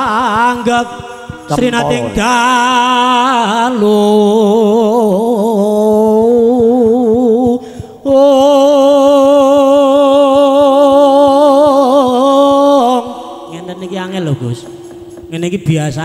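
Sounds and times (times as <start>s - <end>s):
man singing solo with vibrato: 0.0s - 14.2s.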